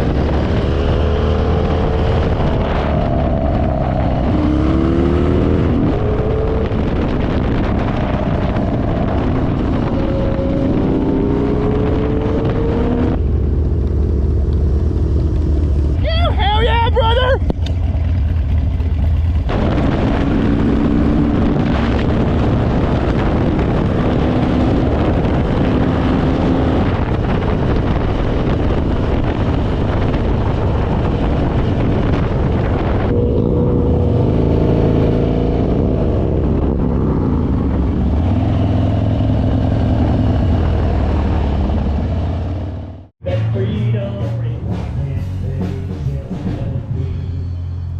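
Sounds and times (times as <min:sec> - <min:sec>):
wind noise: 0:00.0 - 0:43.1
motorcycle engine running: 0:00.0 - 0:47.9.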